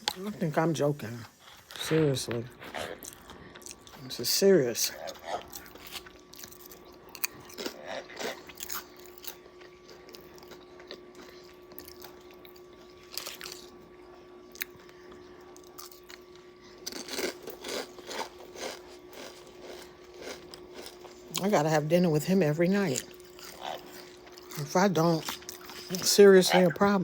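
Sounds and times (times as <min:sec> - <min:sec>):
crunching and chewing food: 0:00.0 - 0:27.0
faint steady hum: 0:00.0 - 0:27.0.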